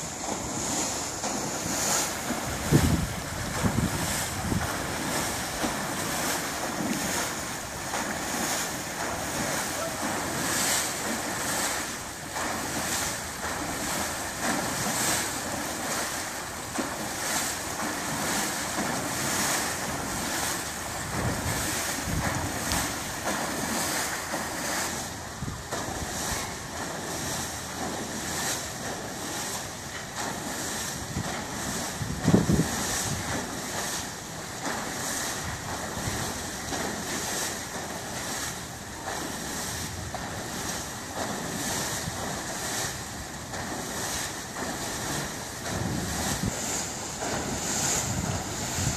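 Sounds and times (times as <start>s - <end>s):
wind buffeting microphone: 0.0s - 24.0s, 24.6s - 27.9s, 30.4s - 33.8s, 35.1s - 48.9s
propeller churning water: 0.0s - 48.9s.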